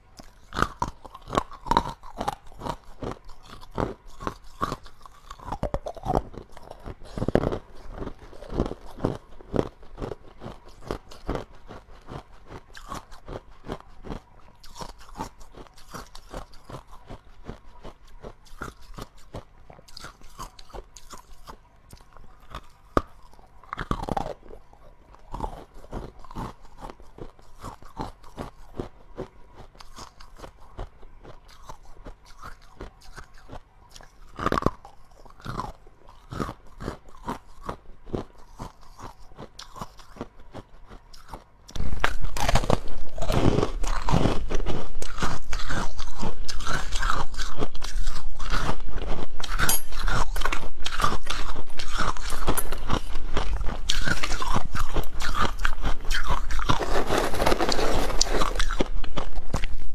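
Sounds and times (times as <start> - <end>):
person chewing ice: 0.0 - 59.9.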